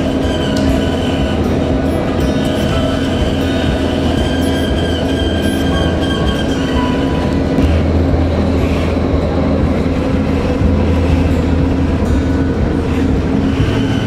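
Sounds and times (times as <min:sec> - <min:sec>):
thin high whine: 0:00.0 - 0:14.0
train wheels rumbling: 0:00.0 - 0:14.0.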